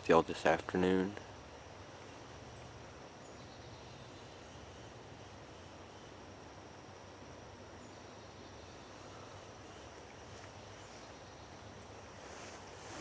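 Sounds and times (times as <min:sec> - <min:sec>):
faint background hiss: 0:00.0 - 0:13.0
high insect drone: 0:00.0 - 0:13.0.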